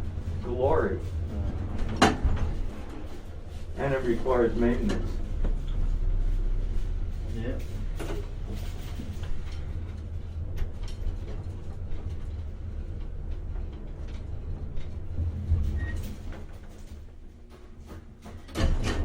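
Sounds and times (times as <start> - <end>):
elevator machinery rumbling: 0.0 - 19.0.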